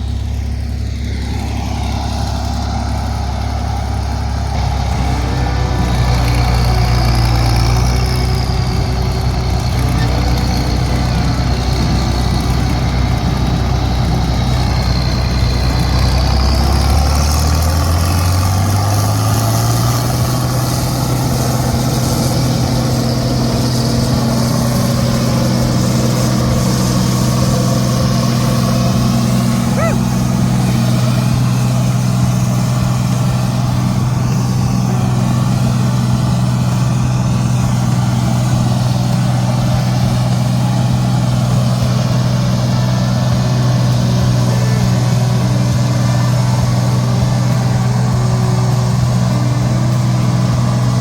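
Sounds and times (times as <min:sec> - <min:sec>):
large vehicle engine running: 0:00.0 - 0:51.0.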